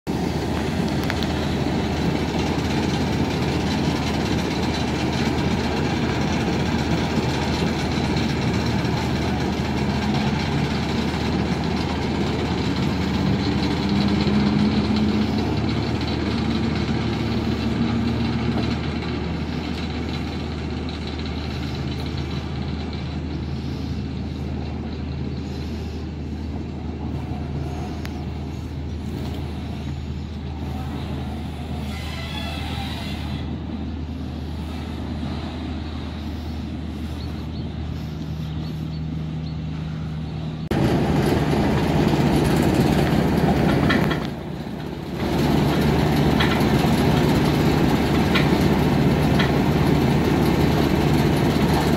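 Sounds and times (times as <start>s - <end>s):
diesel locomotive engine running: 0.0s - 51.9s.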